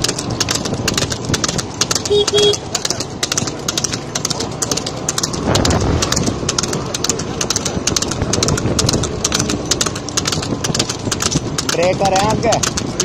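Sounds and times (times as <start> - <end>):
hooves and cart clattering: 0.0 - 13.0
wind and road noise: 0.0 - 13.0.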